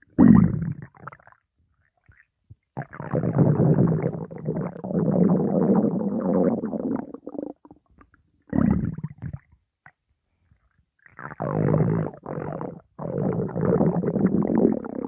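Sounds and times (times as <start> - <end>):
stomach growling: 0.0 - 1.4, 2.0 - 9.5, 11.0 - 15.0.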